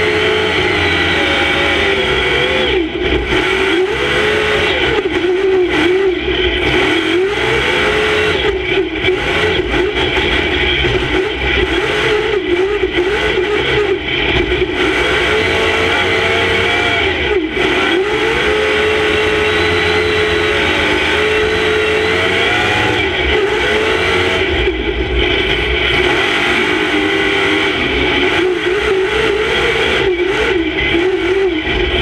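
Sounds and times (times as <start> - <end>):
truck engine revving: 0.0 - 32.0.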